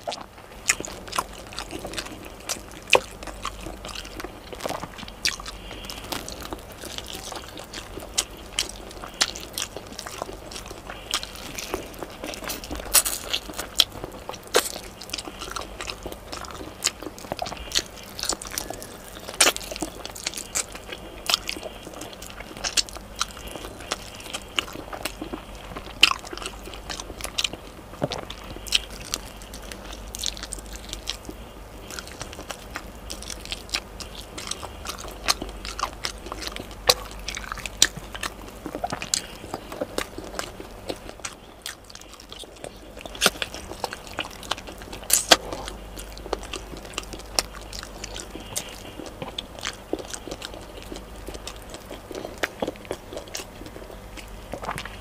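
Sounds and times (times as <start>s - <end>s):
chewing with wet mouth clicks: 0.0s - 55.0s.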